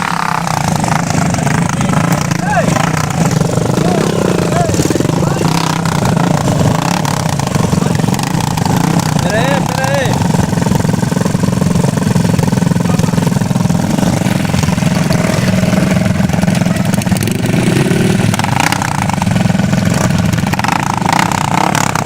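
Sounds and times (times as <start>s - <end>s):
motocross motorcycle engine running: 0.0s - 22.0s.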